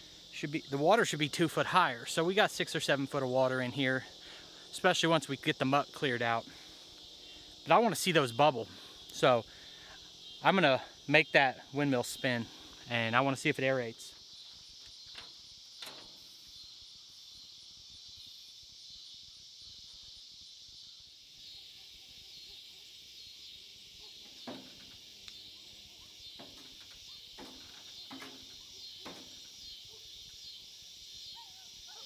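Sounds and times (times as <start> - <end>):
crickets and insects chirping: 0.0 - 32.0.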